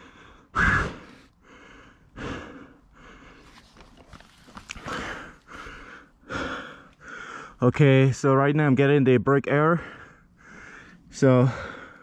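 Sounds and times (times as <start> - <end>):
man breathing heavily: 0.0 - 7.6, 9.7 - 12.0.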